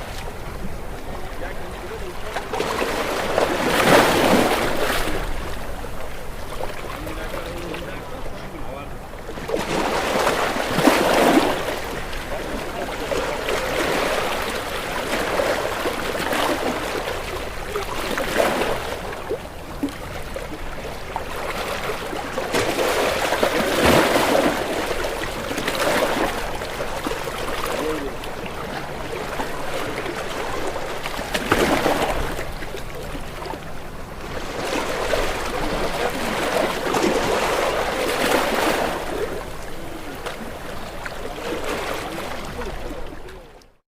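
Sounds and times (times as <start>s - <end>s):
ocean waves breaking on rocks: 0.0s - 43.7s.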